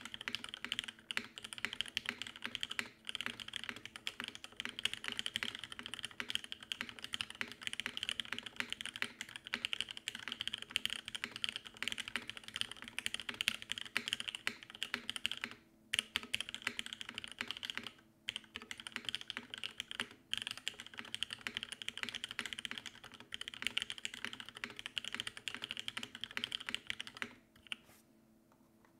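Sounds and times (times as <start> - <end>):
mechanical keyboard typing: 0.0 - 27.8.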